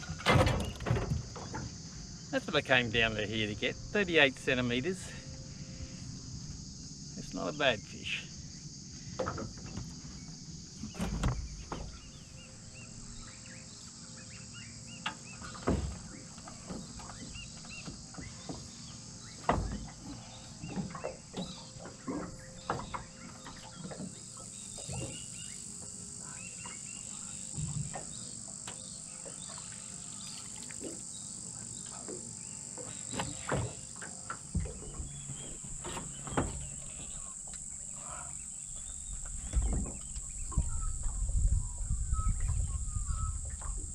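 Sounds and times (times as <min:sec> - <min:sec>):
high-pitched insect chorus: 0:00.0 - 0:43.9.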